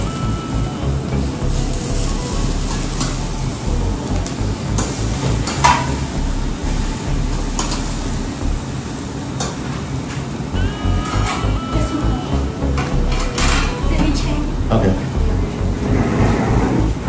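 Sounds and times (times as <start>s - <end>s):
low background rumble: 0.0s - 8.8s, 10.6s - 17.0s.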